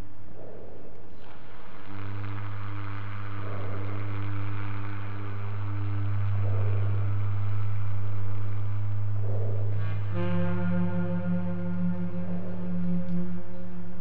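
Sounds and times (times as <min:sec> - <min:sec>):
dark film score drone: 0:00.0 - 0:14.0.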